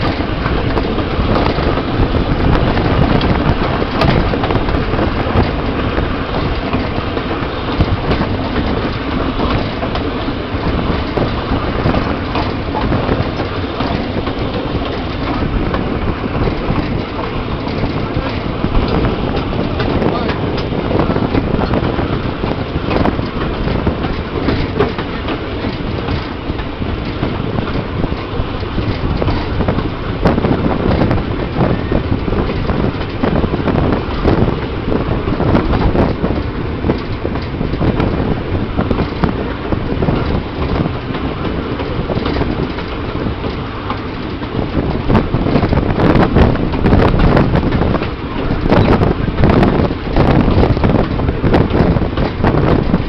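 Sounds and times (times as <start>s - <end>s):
clatter of wheels and wagons: 0.0s - 53.0s
train running noise: 0.0s - 53.0s
wind buffeting microphone: 0.0s - 53.0s.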